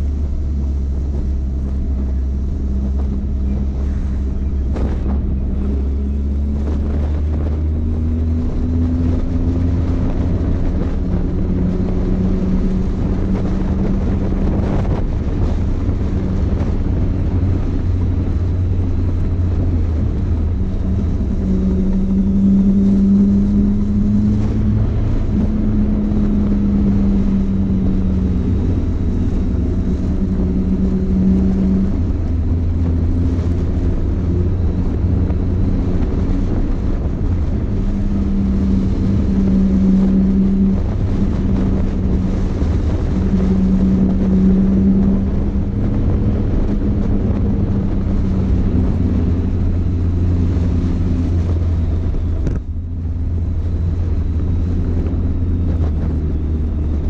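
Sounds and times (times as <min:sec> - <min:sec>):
motorcycle engine running: 0:00.0 - 0:57.0
wind rumbling on microphone: 0:00.0 - 0:57.0.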